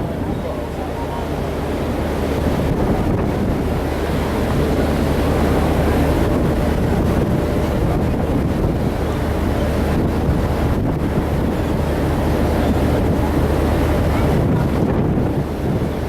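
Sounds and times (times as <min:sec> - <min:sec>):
low ship engine drone: 0:00.0 - 0:16.0
sea waves and foam rushing: 0:00.0 - 0:16.0
wind buffeting microphone: 0:00.0 - 0:16.0.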